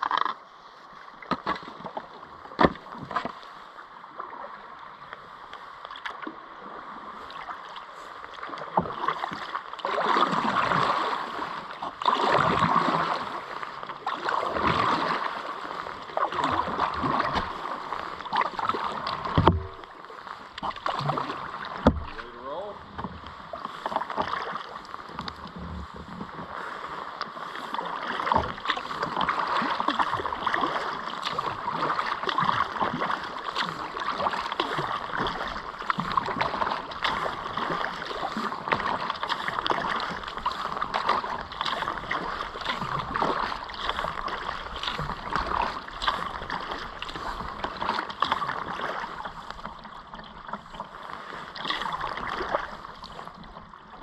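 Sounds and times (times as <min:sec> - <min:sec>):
kayak paddle splashing: 0:00.0 - 0:54.0.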